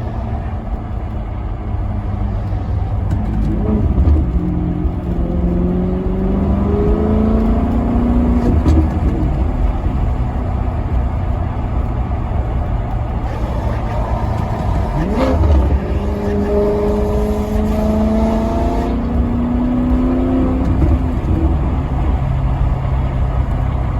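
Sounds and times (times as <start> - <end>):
car engine accelerating: 0.0 - 23.9.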